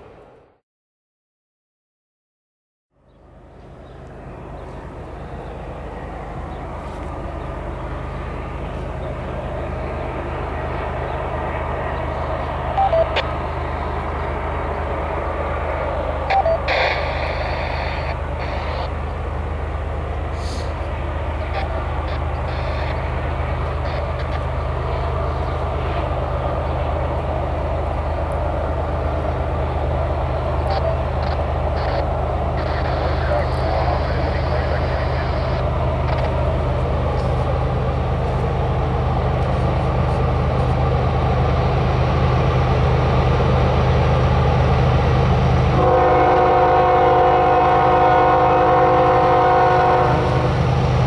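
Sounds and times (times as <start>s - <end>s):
locomotive engine drone: 2.9s - 51.0s.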